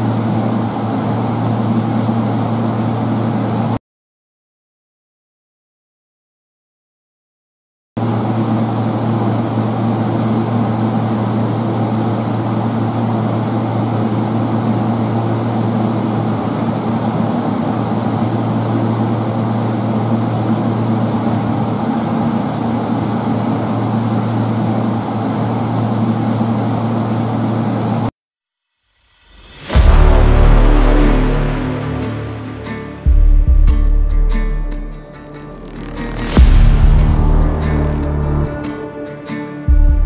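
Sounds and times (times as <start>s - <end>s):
low mechanical drone with hum: 0.0s - 3.8s, 8.0s - 28.1s, 29.4s - 40.0s.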